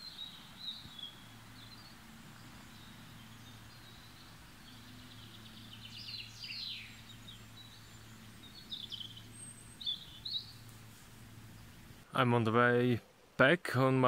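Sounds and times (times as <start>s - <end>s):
songbirds singing: 0.0s - 12.4s
faint low hum: 0.0s - 14.0s.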